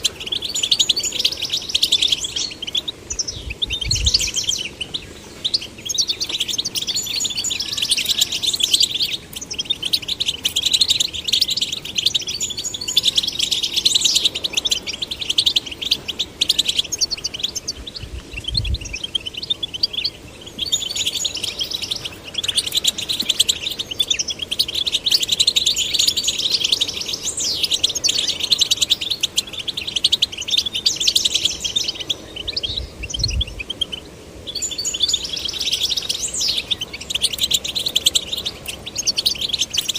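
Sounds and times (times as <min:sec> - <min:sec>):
finch twittering song: 0:00.0 - 0:39.9.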